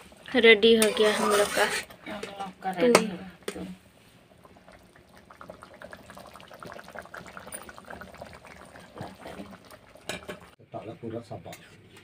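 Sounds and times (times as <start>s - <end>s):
curry bubbling in a metal pot: 0.0s - 10.6s.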